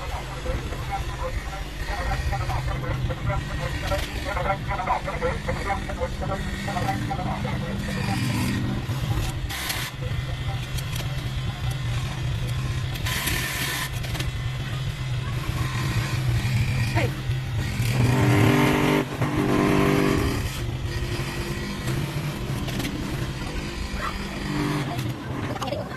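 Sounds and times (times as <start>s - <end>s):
motor humming: 0.0s - 25.9s.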